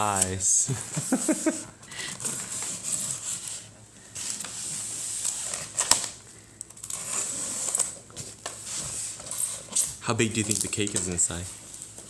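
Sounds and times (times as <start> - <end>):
packaging rubbing and scraping: 0.0 - 12.0.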